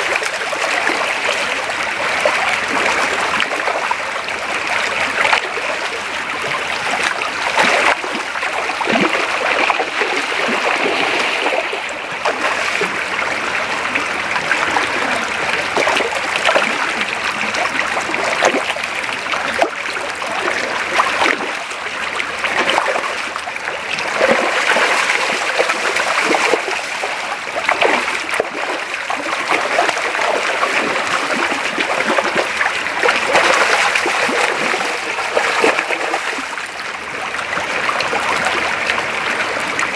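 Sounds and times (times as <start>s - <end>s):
creek flowing: 0.0s - 39.9s
small water splashes: 0.0s - 39.9s.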